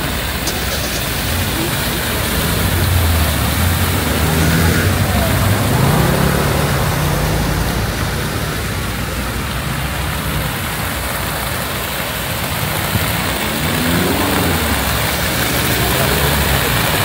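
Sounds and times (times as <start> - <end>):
hiss of passing cars: 0.0 - 17.0
vehicle engine accelerating: 0.0 - 17.0.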